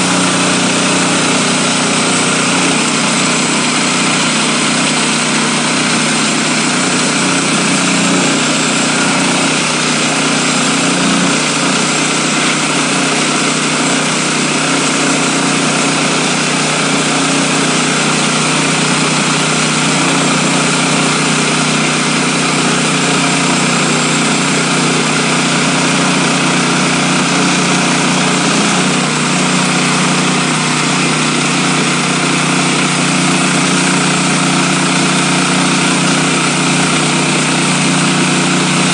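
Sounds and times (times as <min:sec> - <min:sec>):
bandsaw blade cutting log: 0:00.0 - 0:38.9
gas engine droning: 0:00.0 - 0:38.9.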